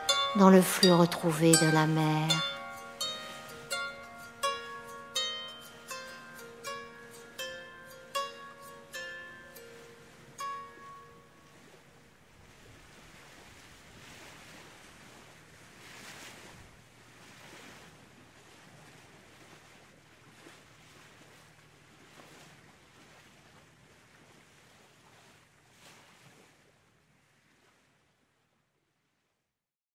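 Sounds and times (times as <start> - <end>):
faint sea waves washing: 0.0 - 28.6.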